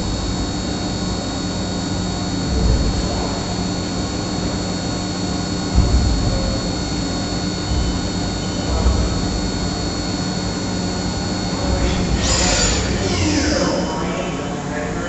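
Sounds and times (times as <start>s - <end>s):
high machine whine: 0.0s - 15.0s
milling machine drone: 0.0s - 15.0s.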